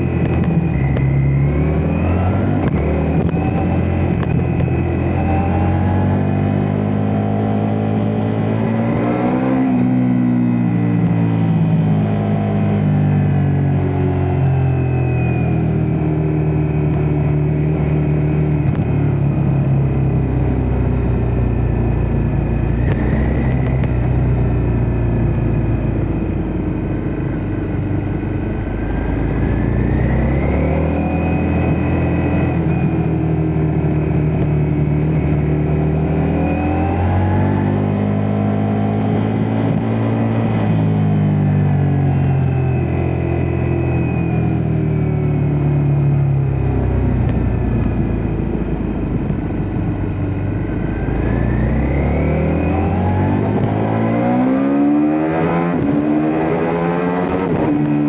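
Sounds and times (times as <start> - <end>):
high whine: 0.0 - 58.0
motorcycle engine revving: 0.0 - 58.0.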